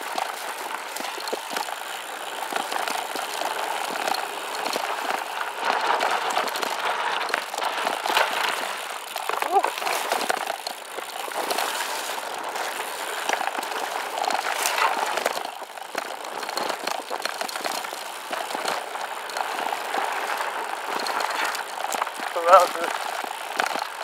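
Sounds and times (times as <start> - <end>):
bike rattling and clicking: 0.0 - 24.0
bike tyres crunching on gravel: 0.0 - 24.0.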